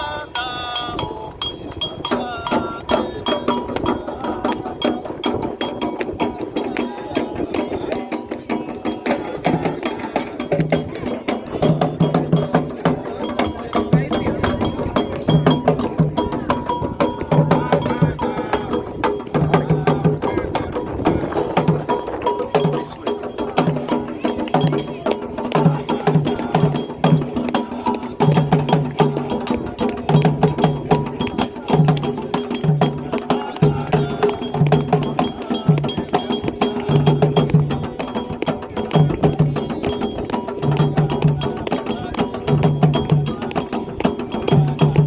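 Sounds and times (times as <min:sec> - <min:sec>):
low hand drum tones: 0:00.0 - 0:45.0.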